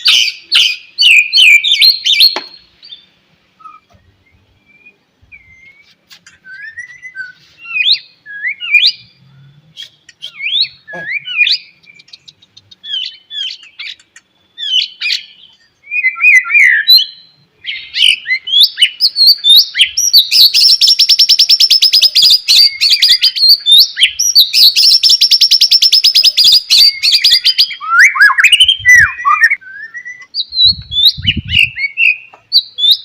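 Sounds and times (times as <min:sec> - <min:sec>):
bird singing whistled phrases: 0:00.0 - 0:33.0.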